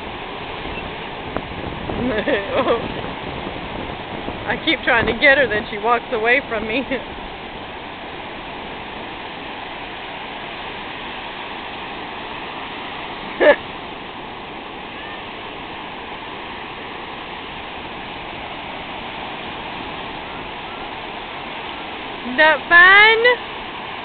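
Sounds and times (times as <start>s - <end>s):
ocean surf washing: 0.0s - 24.0s.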